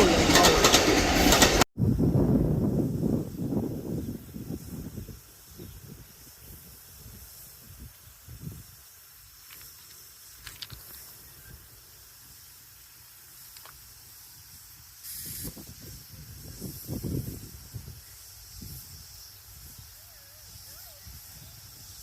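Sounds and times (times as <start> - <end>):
steady high hiss: 2.7 - 22.0.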